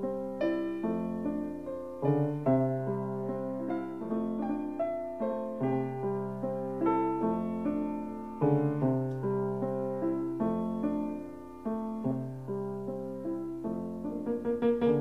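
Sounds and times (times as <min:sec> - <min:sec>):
slow solo piano: 0:00.0 - 0:15.0.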